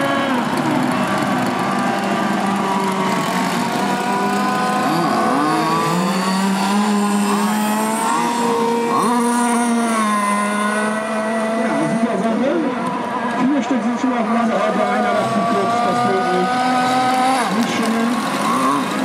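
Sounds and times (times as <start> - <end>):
small two-stroke boat engines buzzing: 0.0 - 19.0.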